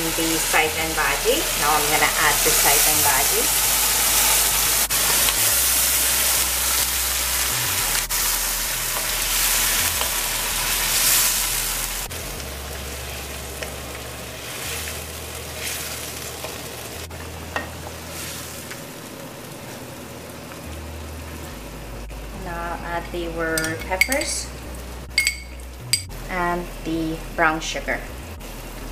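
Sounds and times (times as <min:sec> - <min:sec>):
leaves sizzling in hot oil: 0:00.0 - 0:25.9.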